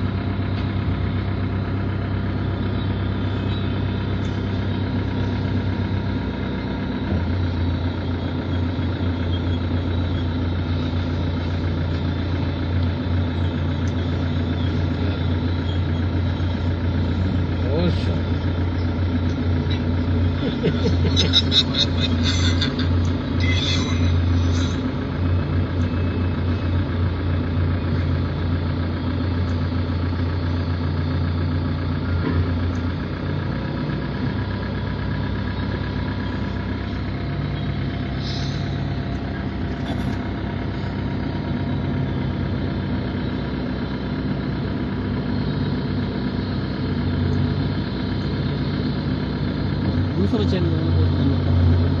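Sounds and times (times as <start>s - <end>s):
heavy diesel engines running: 0.0s - 52.0s.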